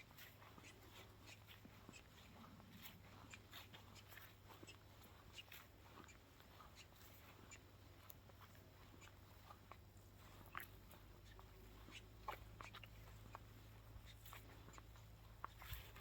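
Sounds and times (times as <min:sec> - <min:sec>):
faint clicks and ticks: 0:00.0 - 0:16.0.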